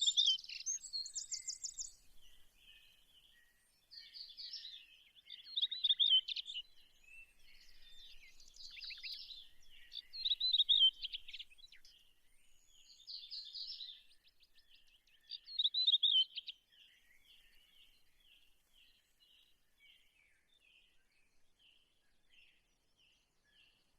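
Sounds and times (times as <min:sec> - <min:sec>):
songbirds chirping and singing: 0:00.0 - 0:23.9.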